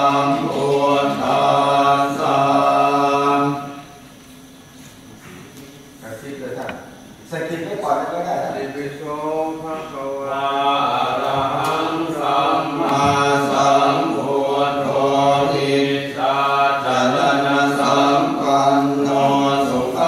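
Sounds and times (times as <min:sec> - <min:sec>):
voices chanting prayers: 0:00.0 - 0:04.2, 0:06.0 - 0:20.0.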